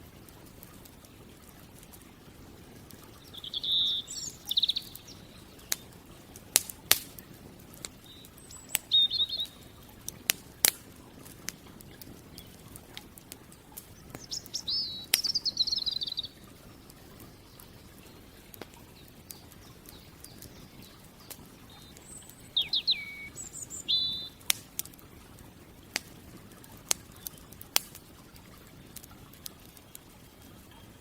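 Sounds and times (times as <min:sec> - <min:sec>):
campfire crackling: 0:00.0 - 0:31.0
songbirds chirping and trilling: 0:00.0 - 0:31.0.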